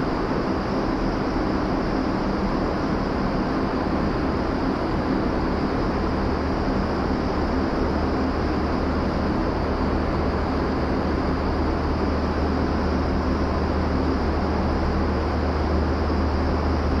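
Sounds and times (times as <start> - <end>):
rush of air from fans: 0.0 - 17.0.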